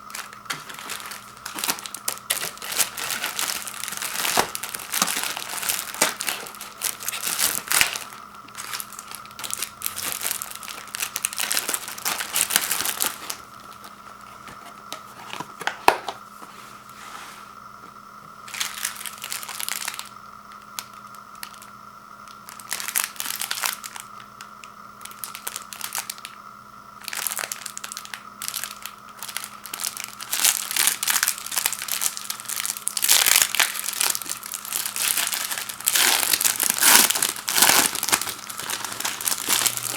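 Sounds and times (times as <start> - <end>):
packaging crinkling and tearing: 0.0 - 16.2, 18.4 - 24.3, 25.0 - 26.4, 27.0 - 39.9.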